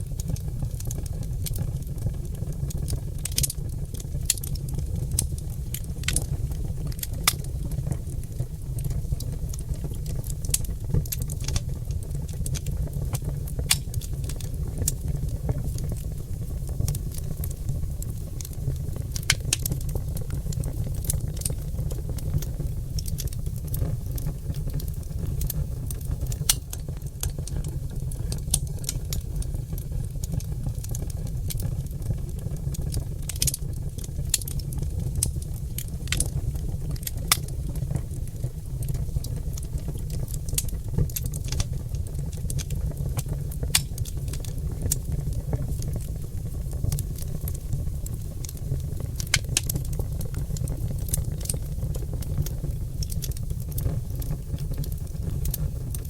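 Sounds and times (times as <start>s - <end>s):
fire crackling and popping: 0.0s - 56.0s
low rumble of fire: 0.0s - 56.0s.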